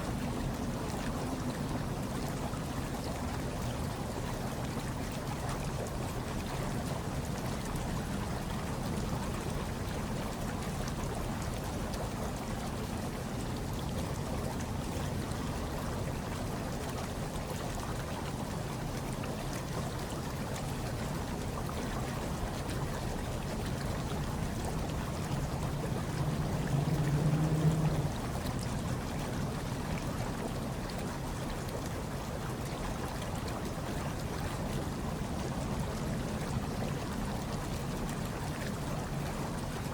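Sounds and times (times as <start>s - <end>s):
hot tub water bubbling: 0.0s - 39.9s
low steady hum: 0.0s - 39.9s.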